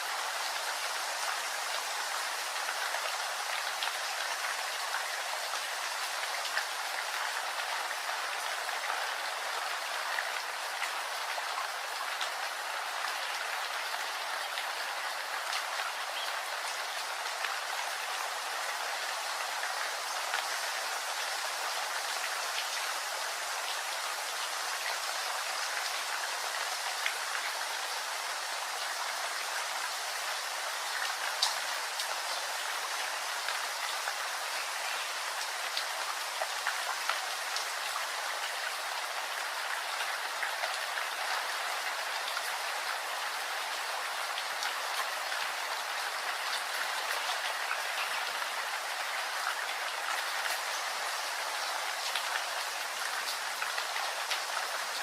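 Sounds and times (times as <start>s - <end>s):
raindrops striking a surface: 0.0s - 55.0s
steady rain hiss: 0.0s - 55.0s.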